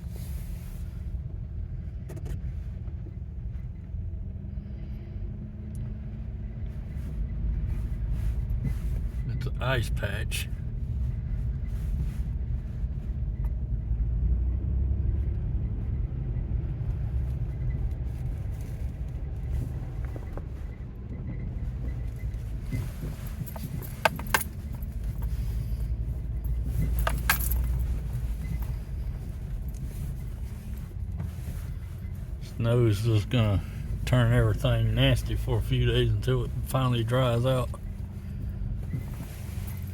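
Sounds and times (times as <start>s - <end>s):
car interior rumble: 0.0s - 39.9s.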